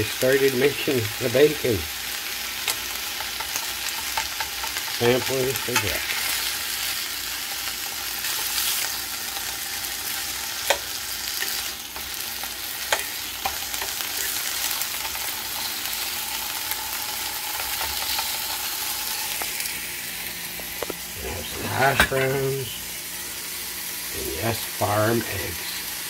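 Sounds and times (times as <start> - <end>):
bacon sizzling in frying pan: 0.0 - 26.0.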